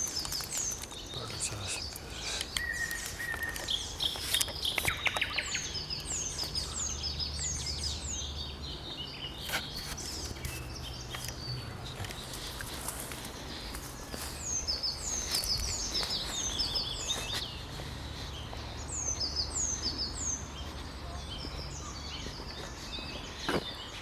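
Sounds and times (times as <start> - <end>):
wild birds singing and calling: 0.0 - 24.0.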